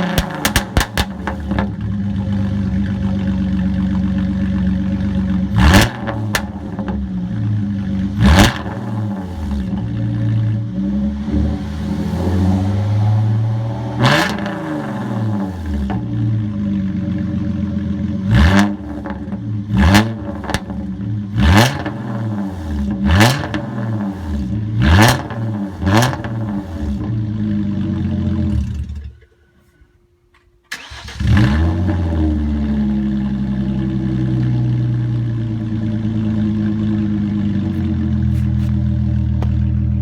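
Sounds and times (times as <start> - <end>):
car engine idling and revving: 0.0 - 29.2, 30.8 - 40.0.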